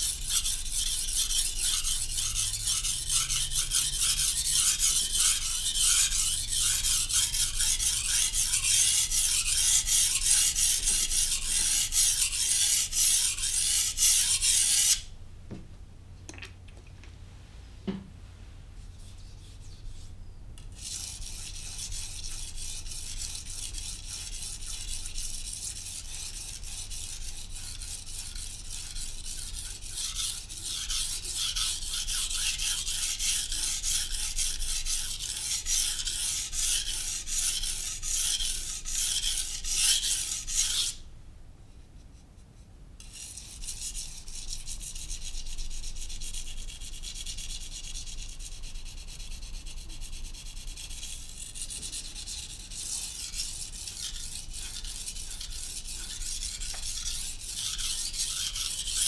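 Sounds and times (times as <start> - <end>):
knife scraping on whetstone: 0.0 - 15.1, 20.6 - 41.0, 43.0 - 47.2, 48.8 - 59.0.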